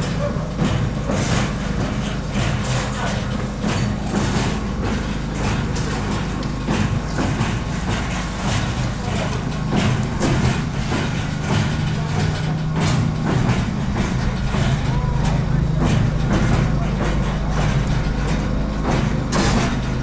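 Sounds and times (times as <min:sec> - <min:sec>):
clattering knocks: 0:00.0 - 0:20.0
concrete mixer humming: 0:00.0 - 0:20.0.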